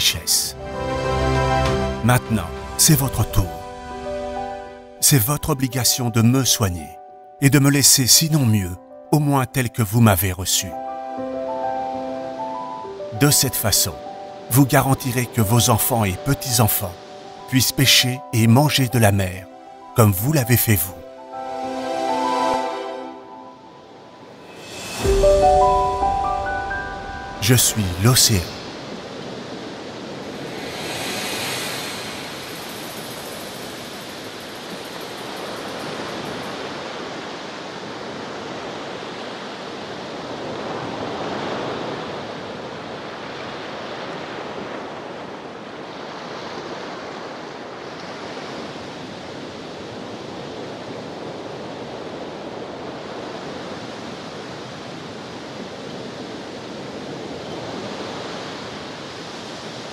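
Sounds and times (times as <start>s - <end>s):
ocean waves washing ashore: 0.0s - 59.9s.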